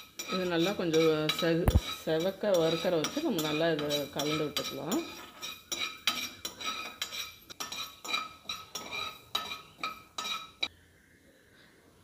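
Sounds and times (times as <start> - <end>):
metal spoon scraping a pan: 0.0 - 10.7.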